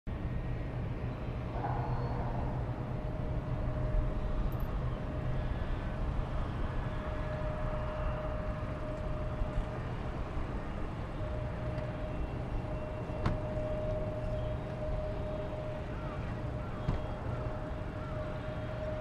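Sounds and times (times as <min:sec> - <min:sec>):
distant jet engine rumble: 0:00.1 - 0:19.0.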